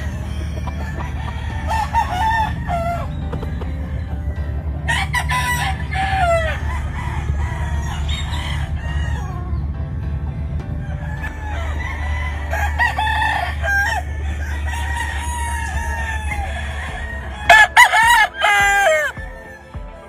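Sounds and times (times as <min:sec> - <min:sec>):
steady low rumble: 0:00.0 - 0:18.4
roosters crowing: 0:00.0 - 0:20.0.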